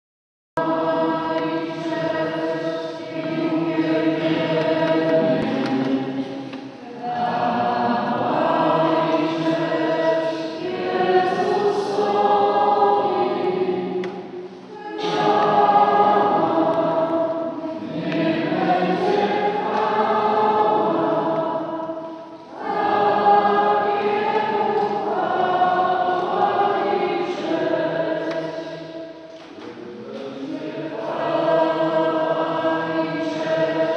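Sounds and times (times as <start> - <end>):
choir singing a sacred song: 0.6 - 33.9.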